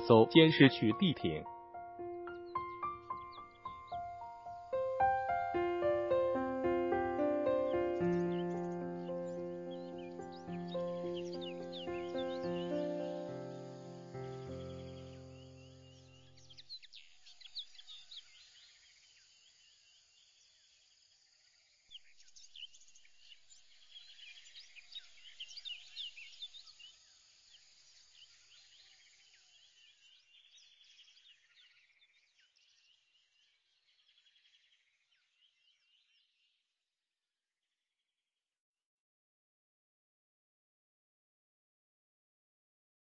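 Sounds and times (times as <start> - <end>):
faint birdsong: 0.0 - 36.8.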